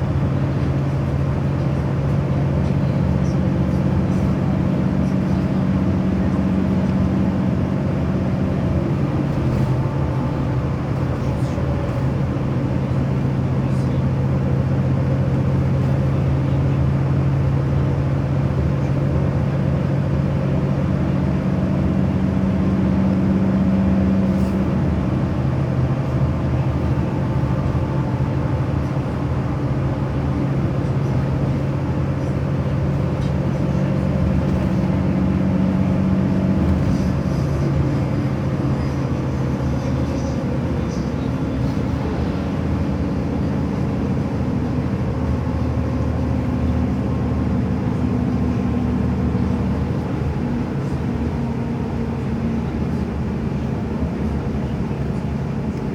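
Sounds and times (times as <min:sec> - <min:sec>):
road noise: 0:00.0 - 0:55.9
vehicle engine hum: 0:00.0 - 0:55.9.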